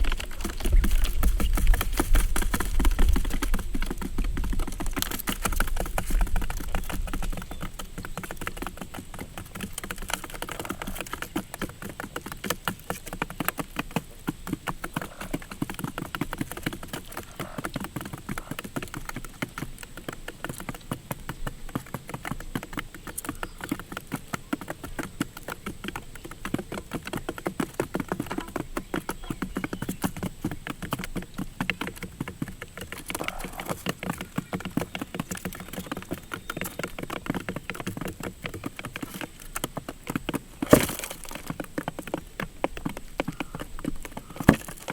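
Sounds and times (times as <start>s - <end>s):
rapid tapping and clicking: 0.0s - 44.9s.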